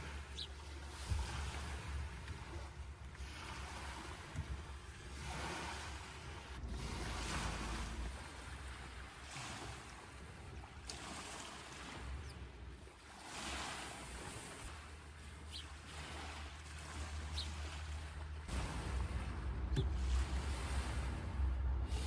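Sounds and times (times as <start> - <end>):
small waves washing on shore: 0.0 - 22.0
wind rumble on microphone: 0.0 - 22.0.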